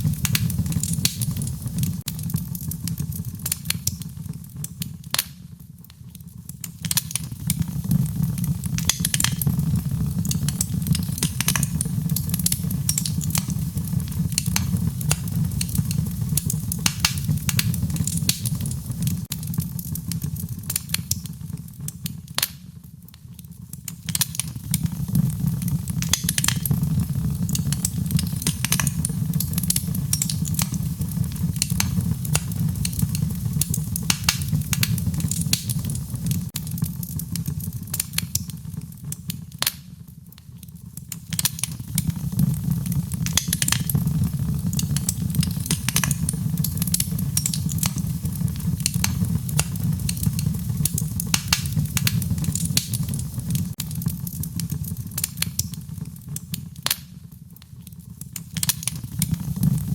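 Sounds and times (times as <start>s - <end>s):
low rumble of fire: 0.0s - 59.9s
wood fire crackling: 0.0s - 59.9s.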